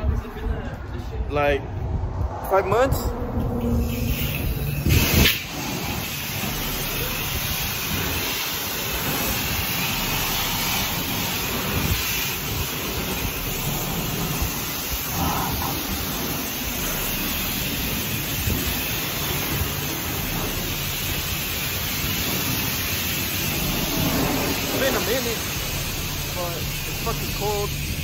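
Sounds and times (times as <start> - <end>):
pressure wand spraying water: 3.6 - 28.0.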